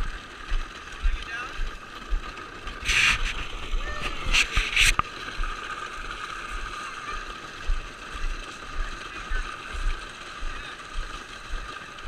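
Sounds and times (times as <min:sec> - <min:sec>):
electric toy quad whirring: 0:00.0 - 0:12.0.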